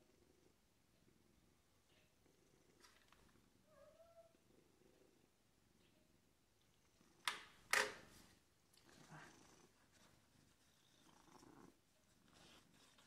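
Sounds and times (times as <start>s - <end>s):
cat purring: 0.0s - 7.2s, 8.6s - 13.0s.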